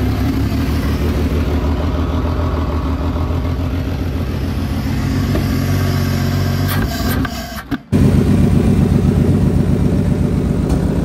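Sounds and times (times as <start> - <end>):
car engine idling: 0.0 - 6.6, 7.3 - 11.0.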